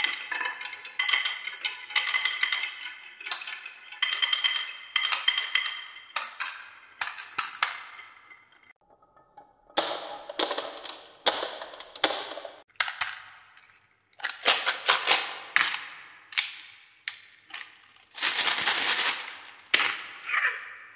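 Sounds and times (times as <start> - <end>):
glass marbles clacking on wood: 0.0 - 18.2
balls tumbling and clattering: 0.0 - 20.2.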